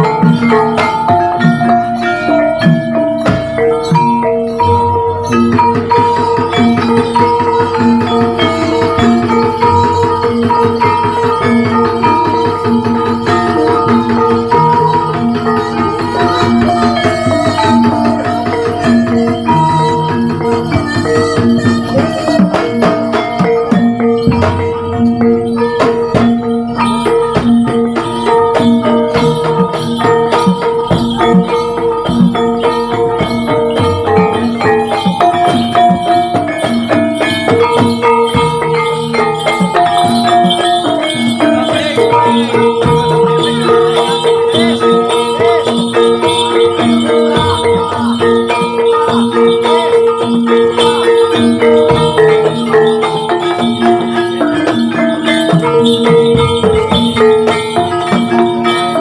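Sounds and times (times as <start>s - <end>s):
rattling shaken percussion: 0.0s - 59.0s
ringing metallophone melody: 0.0s - 59.0s
steady percussion strokes: 0.0s - 59.0s.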